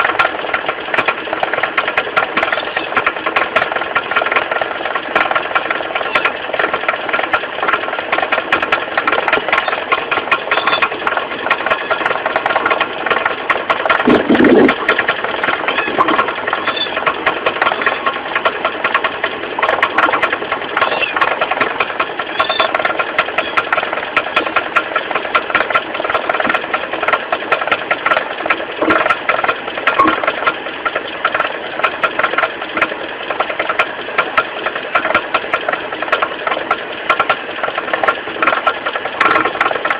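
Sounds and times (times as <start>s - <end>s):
car engine idling: 0.0s - 39.9s
fast knocking rattle: 0.0s - 39.9s.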